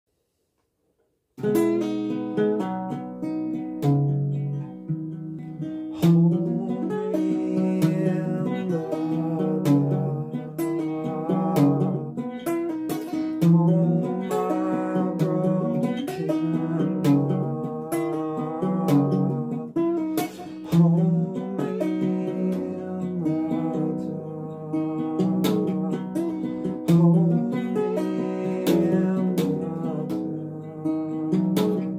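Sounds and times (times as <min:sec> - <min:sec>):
acoustic guitar strumming: 0:01.4 - 0:31.9.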